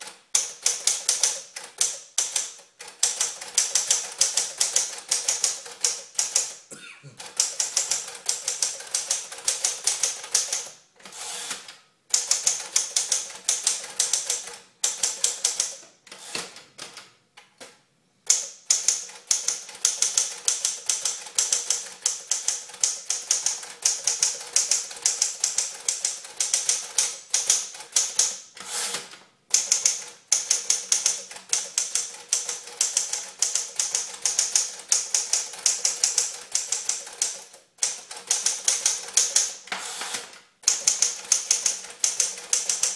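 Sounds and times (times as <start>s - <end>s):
typewriter keystroke clacks: 0.0s - 6.6s, 7.3s - 10.7s, 12.2s - 15.8s, 18.3s - 28.4s, 29.5s - 42.9s.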